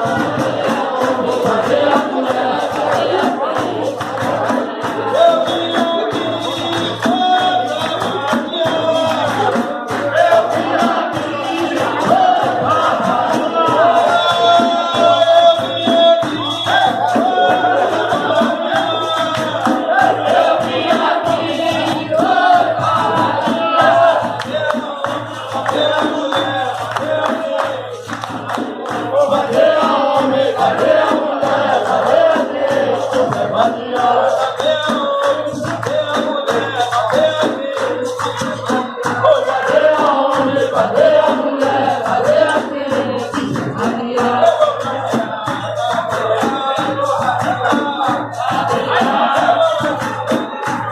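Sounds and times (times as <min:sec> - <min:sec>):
group of voices singing: 0:00.0 - 0:50.9
hand percussion beat: 0:00.0 - 0:50.9.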